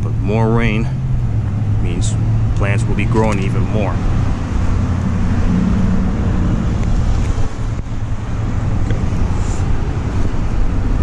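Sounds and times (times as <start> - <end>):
street traffic: 0.0 - 11.0
wind rumbling on microphone: 0.0 - 11.0.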